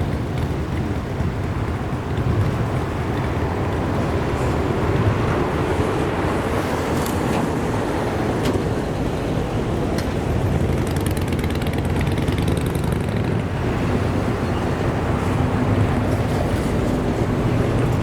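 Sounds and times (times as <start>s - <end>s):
vehicle passing rumble: 0.0s - 18.0s.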